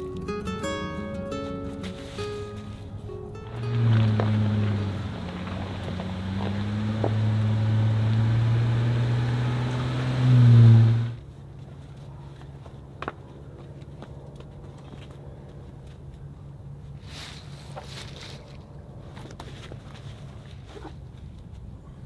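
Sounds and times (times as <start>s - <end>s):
truck engine running slowly: 0.0s - 19.2s.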